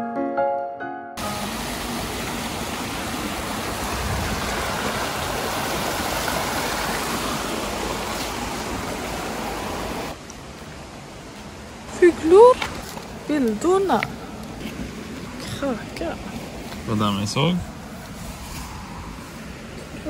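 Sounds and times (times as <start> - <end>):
stream rushing over rocks: 1.2 - 20.0.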